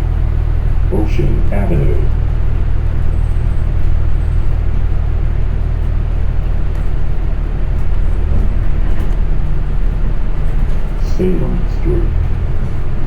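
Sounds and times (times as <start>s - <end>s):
bus engine rumble and road noise: 0.0s - 13.0s.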